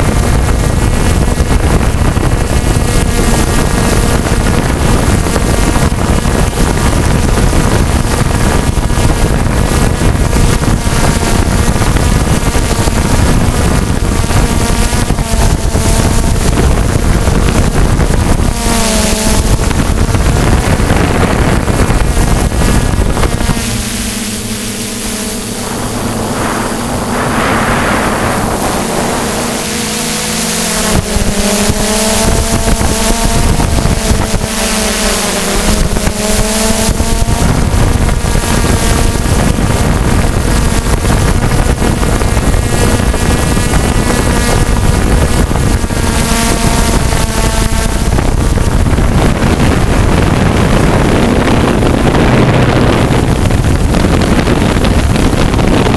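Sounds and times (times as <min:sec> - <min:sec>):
drone motors buzzing whine: 0:00.0 - 0:55.9
wind rushing over microphone: 0:00.0 - 0:55.9.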